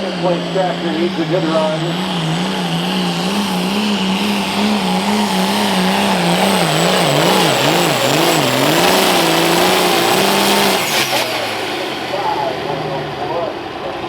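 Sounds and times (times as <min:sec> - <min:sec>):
diesel tractor engine under load: 0:00.0 - 0:14.0
high turbo whine: 0:00.0 - 0:14.0.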